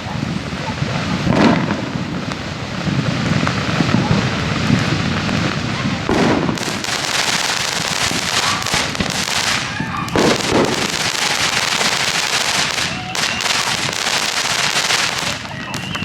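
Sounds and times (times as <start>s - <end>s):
wood fire crackling and popping: 0.6s - 16.0s.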